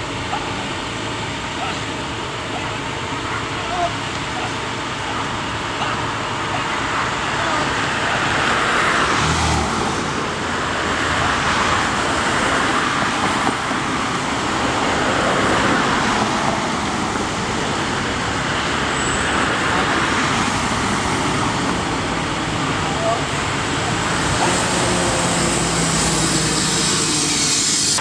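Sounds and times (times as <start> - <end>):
cars passing: 0.0 - 28.0
steady road noise: 0.0 - 28.0.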